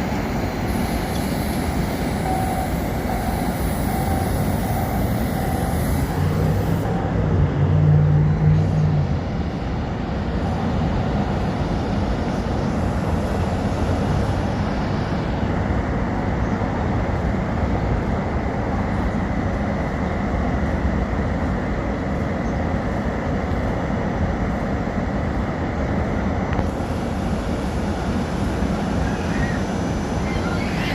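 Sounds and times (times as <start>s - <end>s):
electric train rumbling past: 0.0s - 30.9s.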